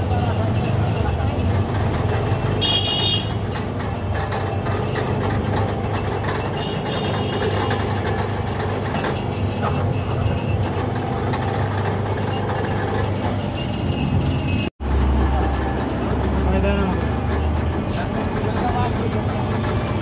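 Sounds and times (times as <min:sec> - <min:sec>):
roller crusher running: 0:00.0 - 0:20.0.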